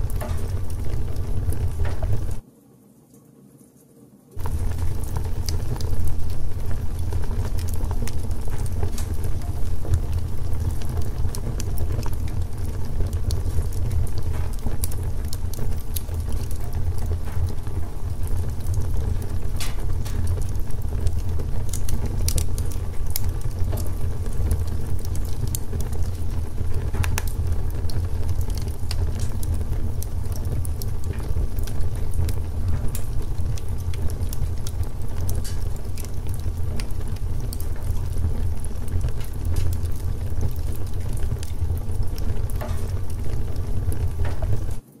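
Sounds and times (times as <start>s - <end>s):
crackles and pops of logs: 0.0s - 2.4s, 4.4s - 44.8s
log fire burning: 0.0s - 2.4s, 4.4s - 45.0s.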